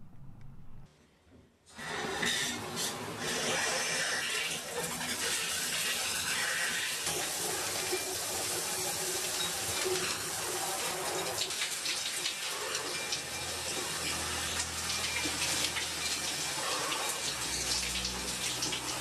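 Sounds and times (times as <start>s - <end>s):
shower water spraying: 1.8s - 19.0s.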